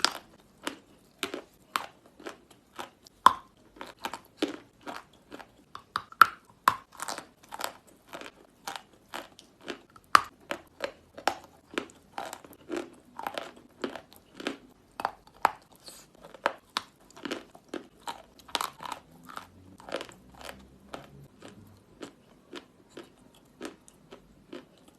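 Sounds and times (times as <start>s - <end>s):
chalk crunching while chewed: 0.0s - 24.9s.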